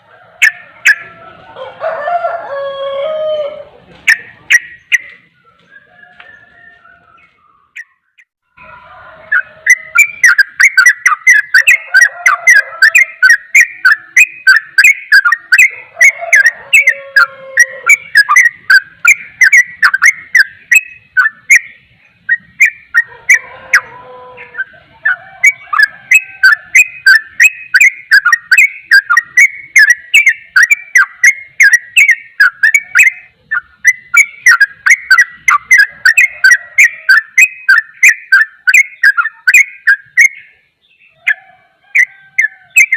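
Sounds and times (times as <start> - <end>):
bulbul singing chirping notes: 0.0 - 1.4, 2.5 - 42.9.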